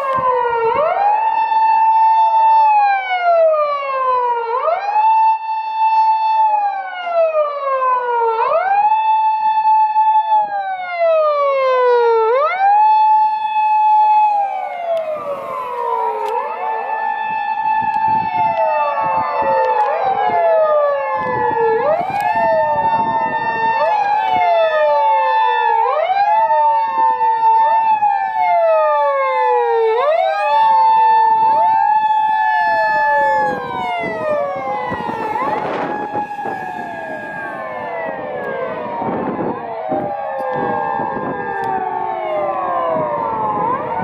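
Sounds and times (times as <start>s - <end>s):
police sirens wailing: 0.0s - 44.0s.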